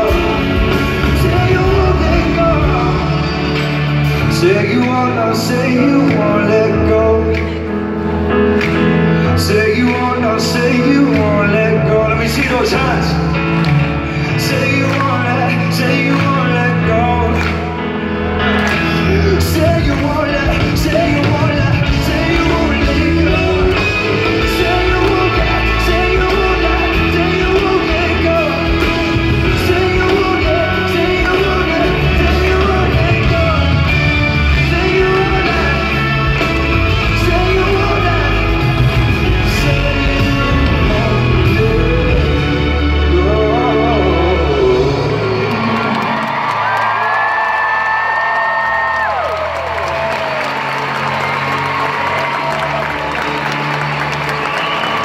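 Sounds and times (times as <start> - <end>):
man singing: 0.0 - 47.1
pop ballad over loudspeakers: 0.0 - 55.0.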